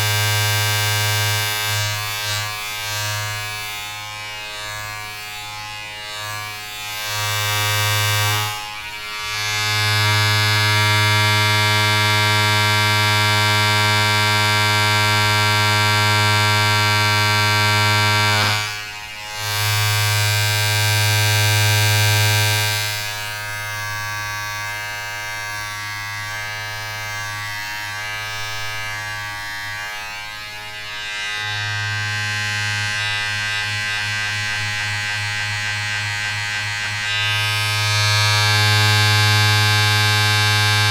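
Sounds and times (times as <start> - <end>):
electric buzzing hum: 0.0 - 40.9.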